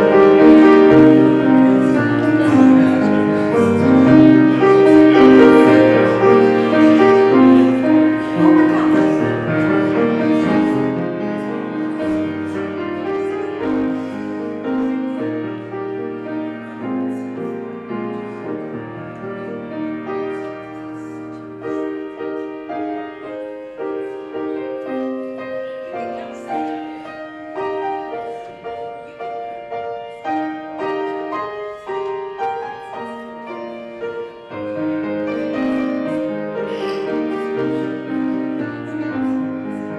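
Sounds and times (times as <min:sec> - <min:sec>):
slow solo piano music: 0:00.0 - 0:39.9.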